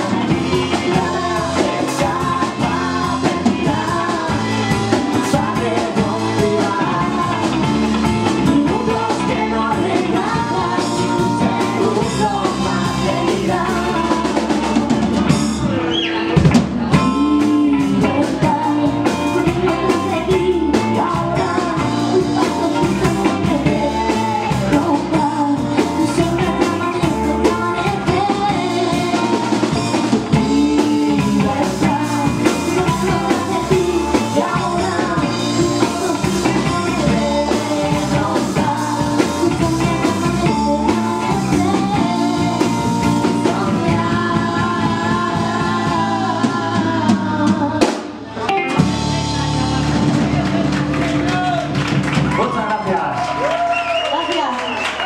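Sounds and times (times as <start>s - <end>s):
woman singing lead: 0.0s - 50.5s
guitars: 0.0s - 53.4s
bass guitar: 0.0s - 55.0s
drum kit: 0.0s - 55.0s.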